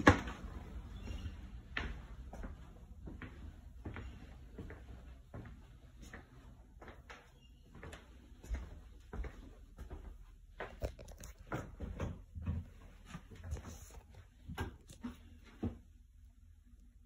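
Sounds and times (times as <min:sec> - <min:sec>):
footsteps: 0:00.0 - 0:15.8.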